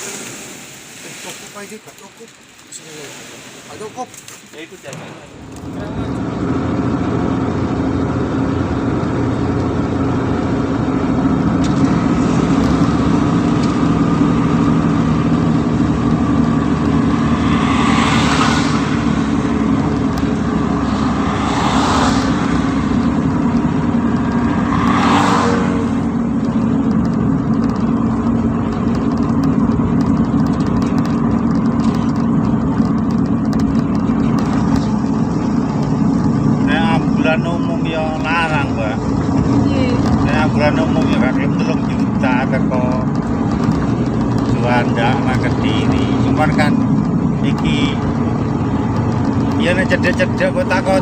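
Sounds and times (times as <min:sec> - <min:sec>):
ambulance engine drone: 0:04.6 - 0:51.0.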